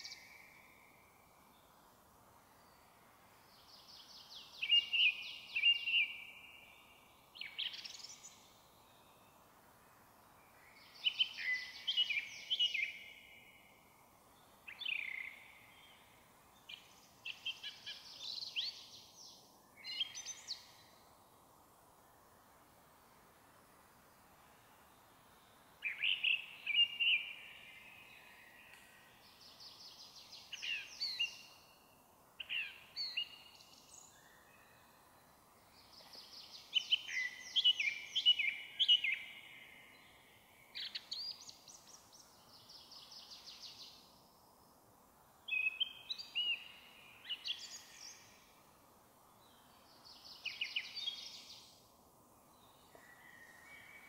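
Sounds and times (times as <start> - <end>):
song thrush singing: 0.0 - 9.6, 10.2 - 21.5, 24.3 - 54.0
faint steady hiss: 0.0 - 54.0.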